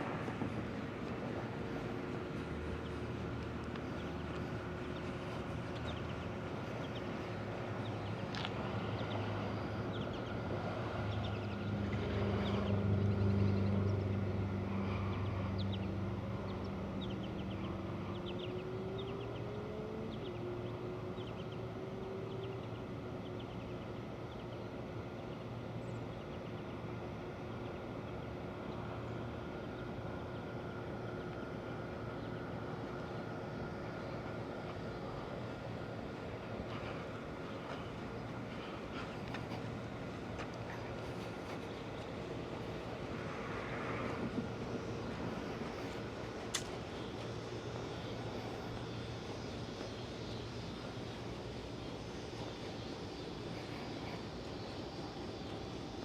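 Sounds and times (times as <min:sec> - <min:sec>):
distant traffic: 0:00.0 - 0:56.0.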